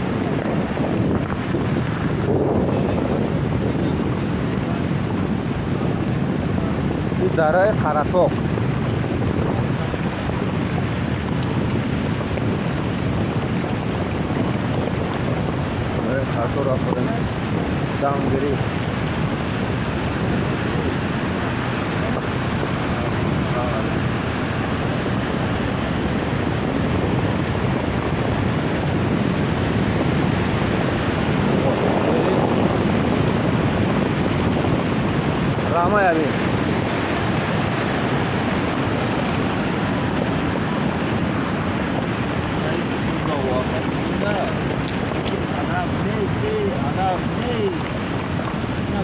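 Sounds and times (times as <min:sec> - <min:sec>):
steady rushing noise: 0:00.0 - 0:49.0
wind buffeting microphone: 0:00.0 - 0:49.0.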